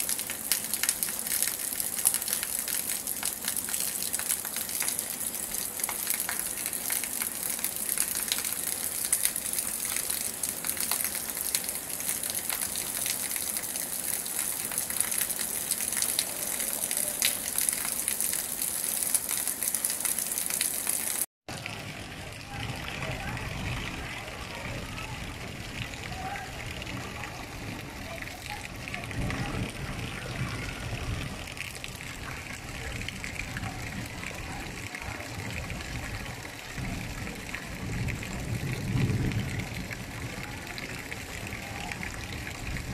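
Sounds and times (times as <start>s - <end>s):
heavy rain on floodwater: 0.0s - 42.9s.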